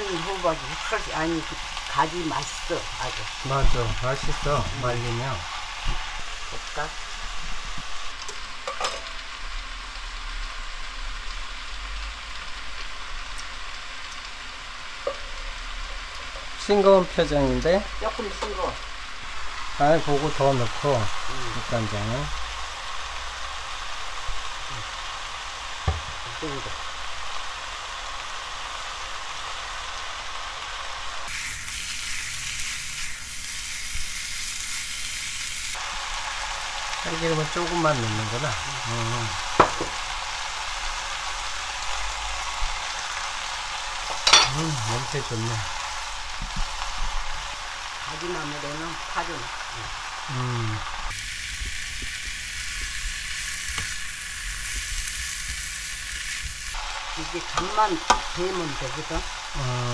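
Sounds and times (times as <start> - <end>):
eggplant sizzling in a frying pan: 0.0 - 59.9.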